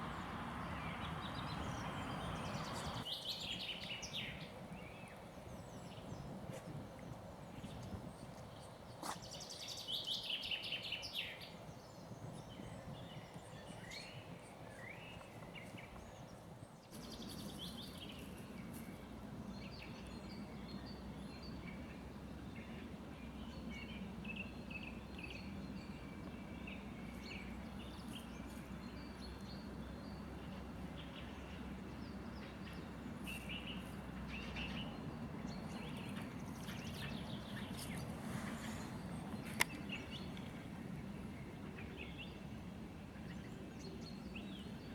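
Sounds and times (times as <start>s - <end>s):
songbirds singing and calling: 0.0s - 44.9s.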